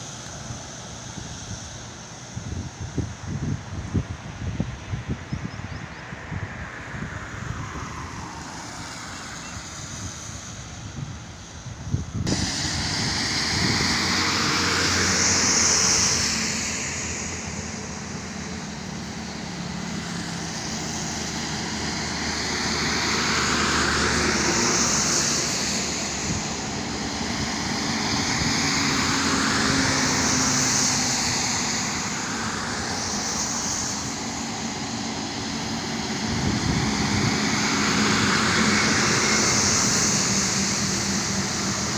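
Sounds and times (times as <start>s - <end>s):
road noise: 0.0s - 41.9s
truck engine rumble: 6.3s - 41.9s.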